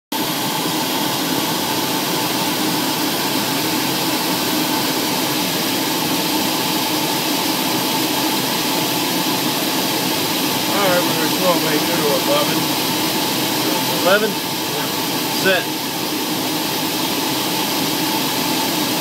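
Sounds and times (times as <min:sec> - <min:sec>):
aircraft cabin engine rushing: 0:00.1 - 0:19.0.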